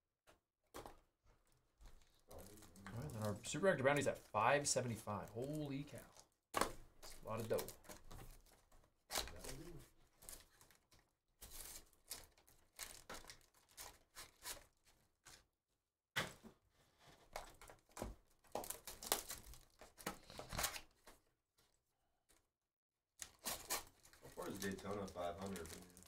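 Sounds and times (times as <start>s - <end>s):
plastic wrappers crinkling and tearing: 0.8s - 15.4s, 17.4s - 21.2s, 23.2s - 26.0s.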